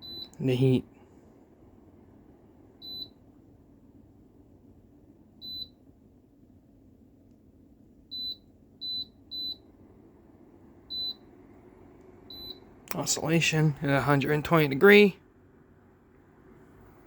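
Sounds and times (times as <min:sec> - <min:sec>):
heater fan humming: 0:00.0 - 0:17.0.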